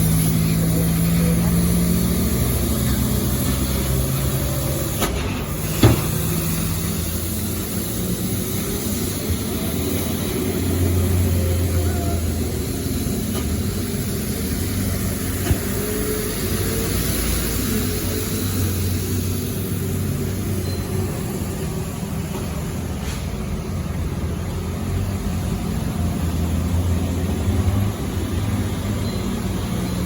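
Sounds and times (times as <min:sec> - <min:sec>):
large truck engine running: 0:00.0 - 0:30.0.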